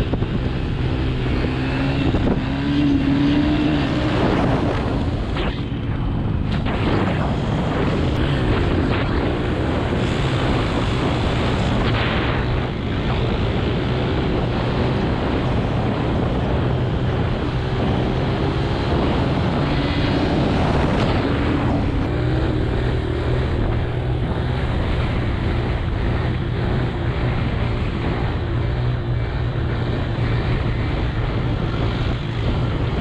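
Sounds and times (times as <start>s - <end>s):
dirt bike engine running: 0.0s - 33.0s
wind rushing over microphone: 0.0s - 33.0s.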